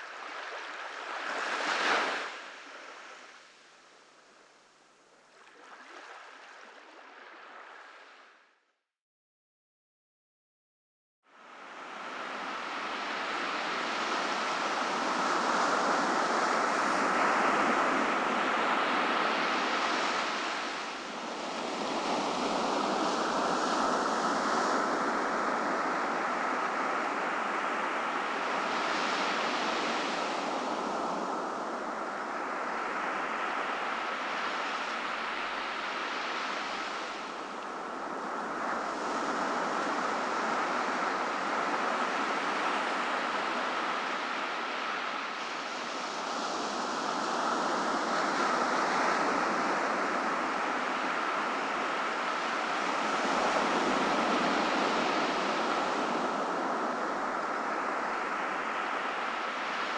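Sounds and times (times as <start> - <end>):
ocean waves breaking on beach: 0.0 - 3.9, 11.4 - 59.9.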